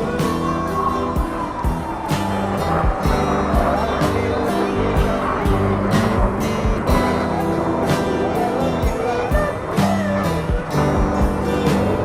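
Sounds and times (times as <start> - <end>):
held guitar notes: 0.0 - 12.0
rock music: 0.0 - 12.0
steady drum beat: 0.0 - 12.0.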